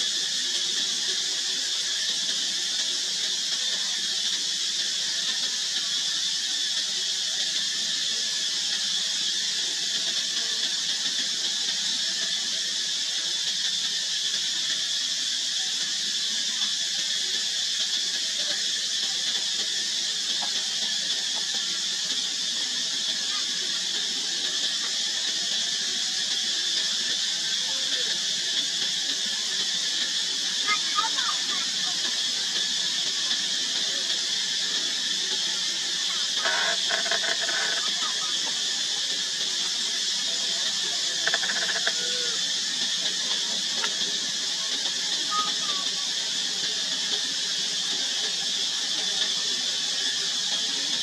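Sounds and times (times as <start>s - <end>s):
insect chorus droning: 0.0s - 51.0s.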